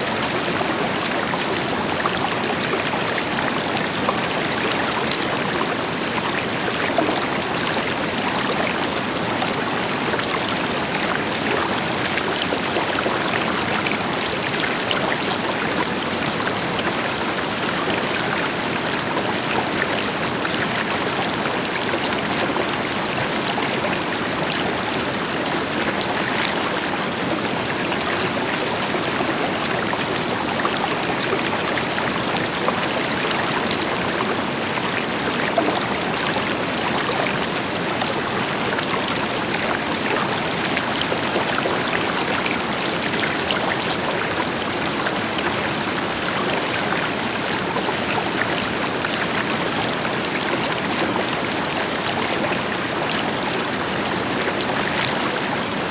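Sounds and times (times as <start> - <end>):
river water flowing over rocks: 0.0 - 55.9.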